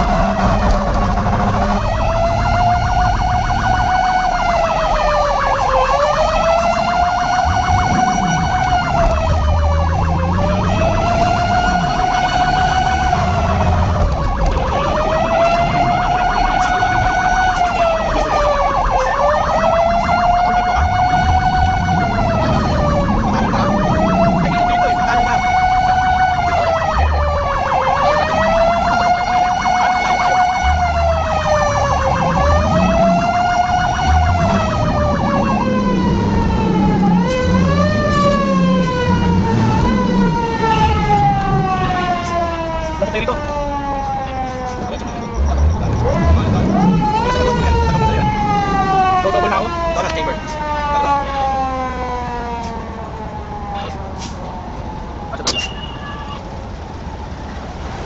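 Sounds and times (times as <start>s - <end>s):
siren wailing: 0.0s - 57.5s.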